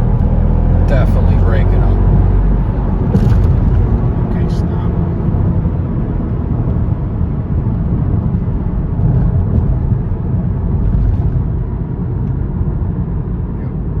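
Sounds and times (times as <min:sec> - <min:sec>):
car engine rumble inside cabin: 0:00.0 - 0:14.0
road noise: 0:00.0 - 0:14.0.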